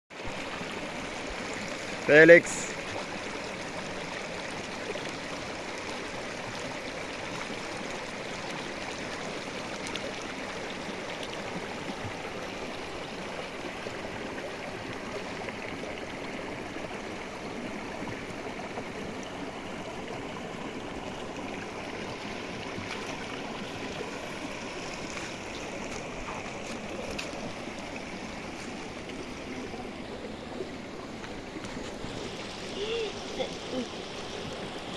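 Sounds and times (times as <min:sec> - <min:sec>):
river rushing: 0:00.1 - 0:34.9.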